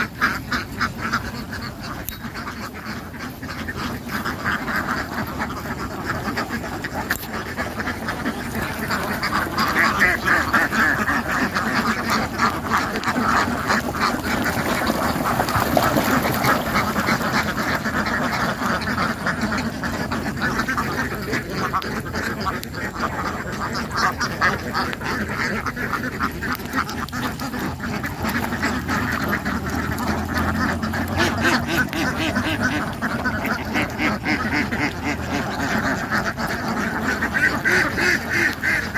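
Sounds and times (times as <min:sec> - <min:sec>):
ducks quacking: 0:00.0 - 0:38.9.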